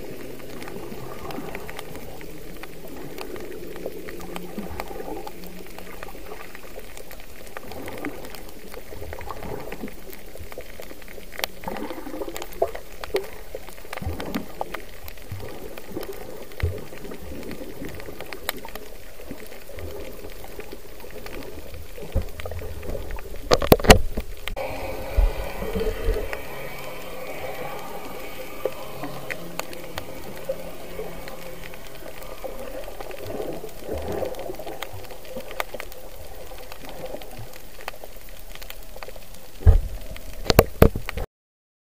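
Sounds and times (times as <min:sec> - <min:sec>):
faint clicks: 0:00.0 - 0:41.2
muffled underwater noise: 0:00.0 - 0:41.2.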